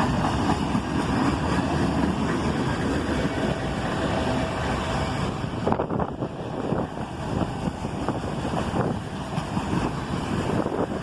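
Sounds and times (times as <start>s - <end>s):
train wheels clattering on track: 0.0s - 11.0s.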